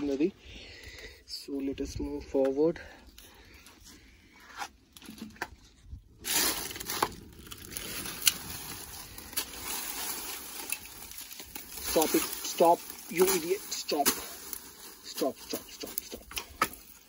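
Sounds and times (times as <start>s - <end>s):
dry grass and leaves crunching: 0.0s - 17.0s.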